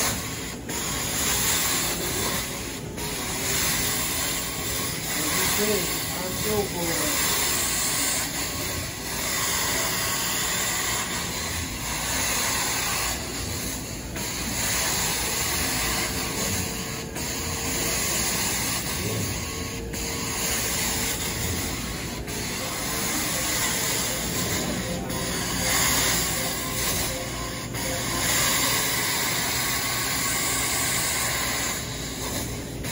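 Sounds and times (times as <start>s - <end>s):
carpet extraction wand hissing: 0.0s - 32.9s.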